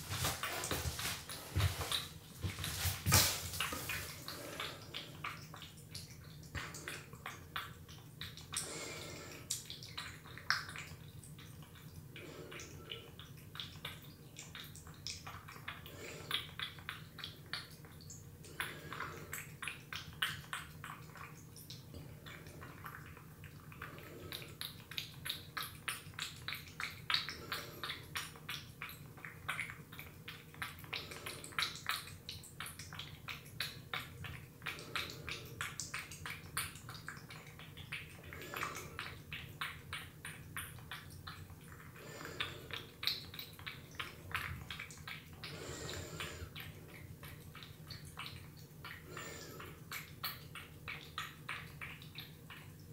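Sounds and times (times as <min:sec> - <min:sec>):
cat lapping wet food: 0:00.0 - 0:52.9.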